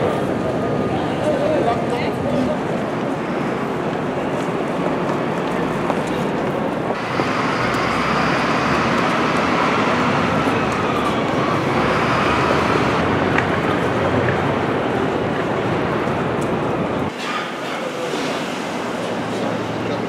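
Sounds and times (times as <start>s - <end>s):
city traffic: 0.0s - 20.0s.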